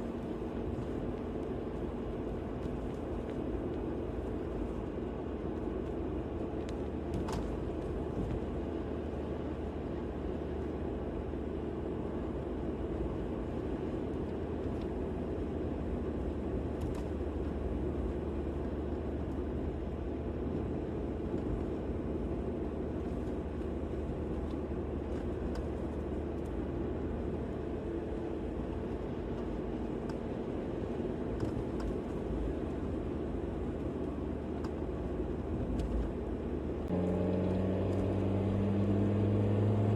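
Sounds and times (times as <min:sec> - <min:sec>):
vehicle engine and tyre rumble: 0:00.0 - 0:39.9.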